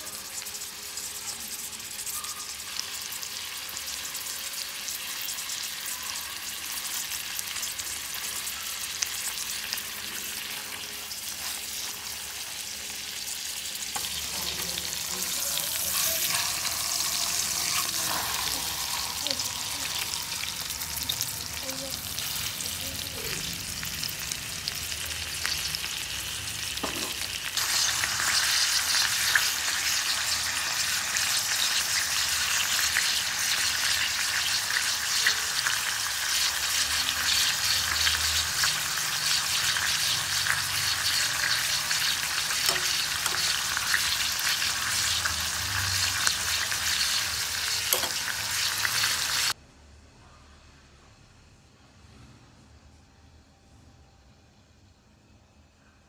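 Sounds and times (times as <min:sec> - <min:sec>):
steaks sizzling in oil: 0:00.0 - 0:49.6.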